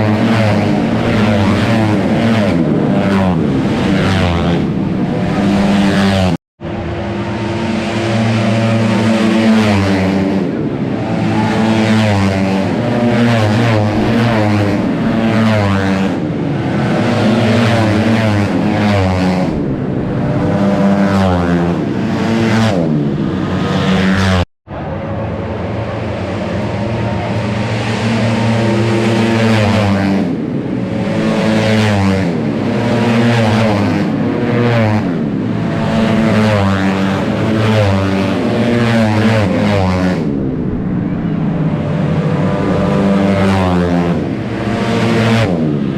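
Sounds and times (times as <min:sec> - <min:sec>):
scooter engines at high revs: 0:00.0 - 0:24.4, 0:25.2 - 0:45.9.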